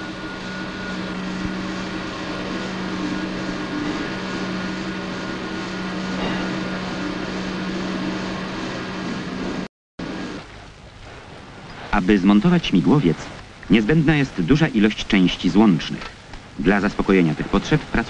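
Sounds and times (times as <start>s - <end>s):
balancing machine humming: 0.0s - 18.0s.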